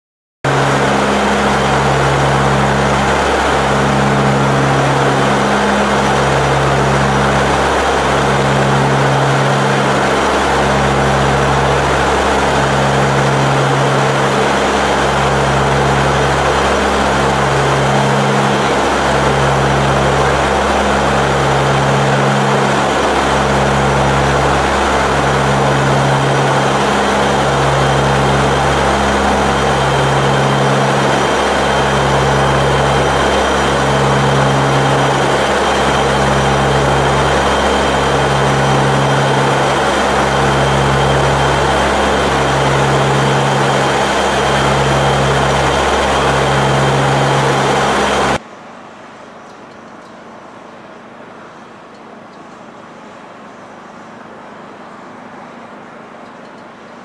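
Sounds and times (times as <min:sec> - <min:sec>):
turboprop engines running: 0:00.4 - 0:57.0.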